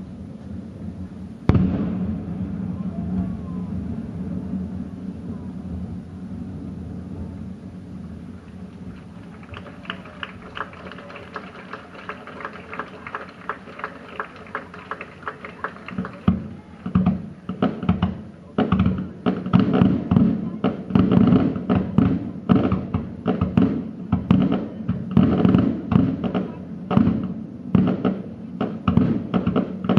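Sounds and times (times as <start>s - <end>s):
firework shell bursts rumbling: 0.0s - 29.9s
fireworks crackling pops: 0.0s - 29.9s
firework booms: 0.5s - 29.9s.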